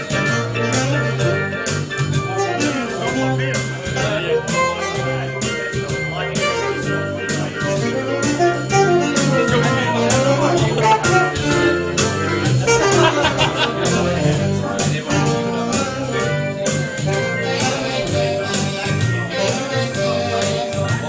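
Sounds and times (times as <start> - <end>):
upbeat music with percussion: 0.0 - 21.0.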